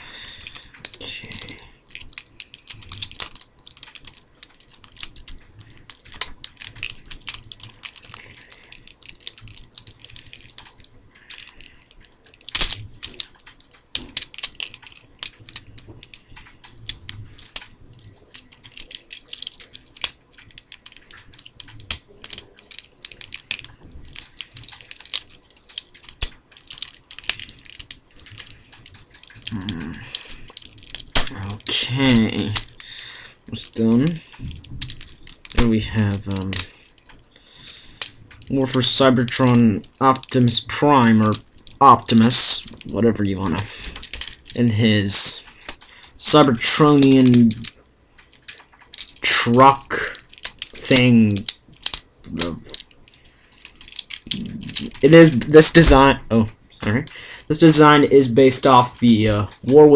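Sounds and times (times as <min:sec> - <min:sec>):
plastic toy parts clicking: 0:00.2 - 0:56.2, 0:56.8 - 0:59.9.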